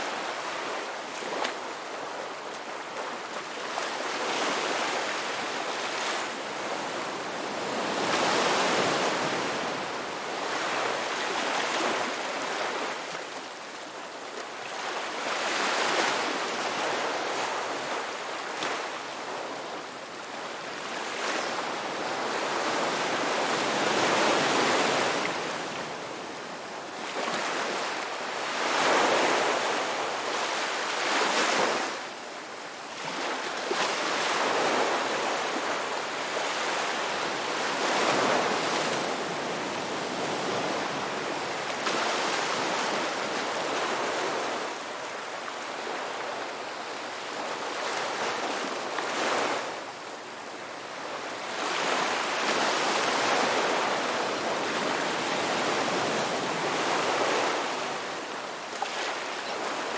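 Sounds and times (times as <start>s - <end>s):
sea waves breaking on shore: 0.0s - 14.0s, 14.6s - 32.1s, 32.9s - 49.9s, 50.6s - 59.9s.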